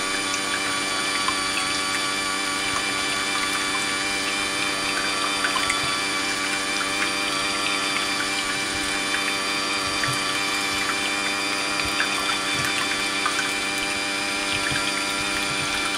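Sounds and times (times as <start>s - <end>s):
hand mixer motor whirring: 0.0s - 15.9s
whisks splashing liquid: 0.0s - 15.9s.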